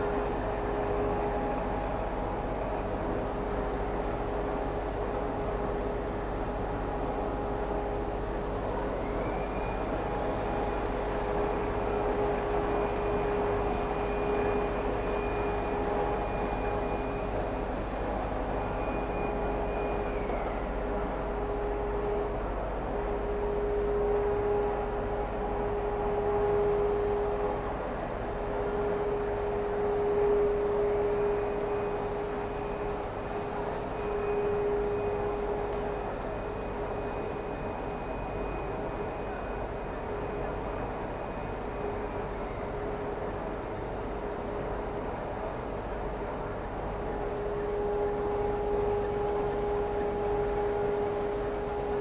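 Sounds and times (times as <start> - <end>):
high machine whine: 0.0 - 52.0
machine drone with constant hum: 0.0 - 52.0.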